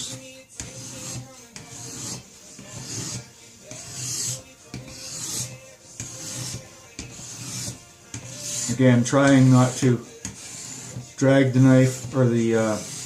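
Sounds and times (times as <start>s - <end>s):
sharpening stone rasping on blade: 0.0s - 13.0s.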